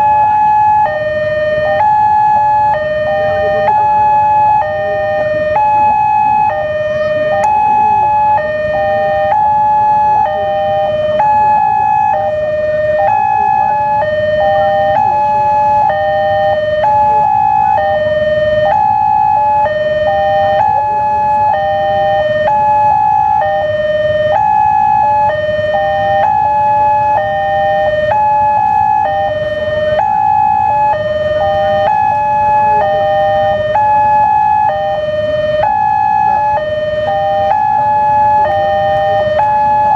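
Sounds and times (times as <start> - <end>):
level crossing alarm: 0.0 - 39.9.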